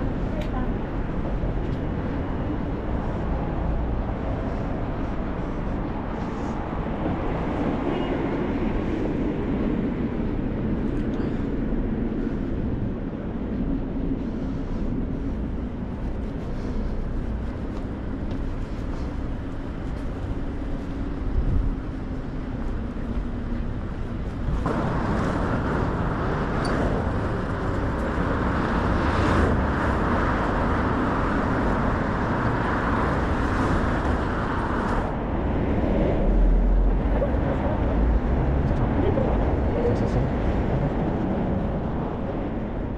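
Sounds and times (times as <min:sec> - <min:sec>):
road traffic engine drone: 0:00.0 - 0:42.9.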